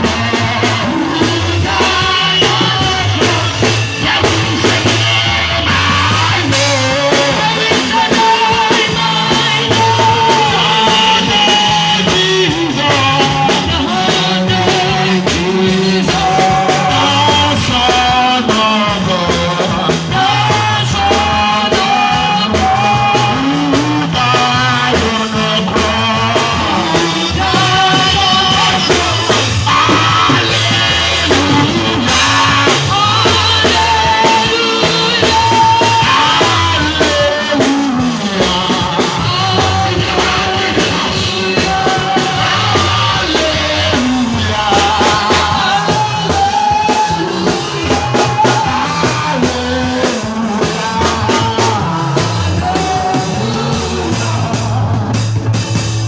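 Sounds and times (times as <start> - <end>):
band with guitar and drums: 0.0 - 56.0
person singing: 0.0 - 56.0.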